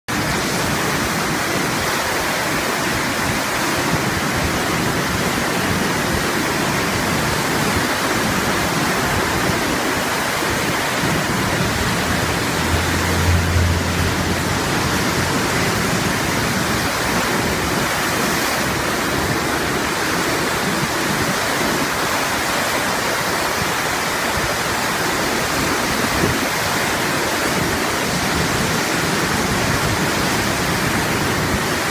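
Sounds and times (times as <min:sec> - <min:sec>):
churning whitewater rushing: 0:00.1 - 0:31.9.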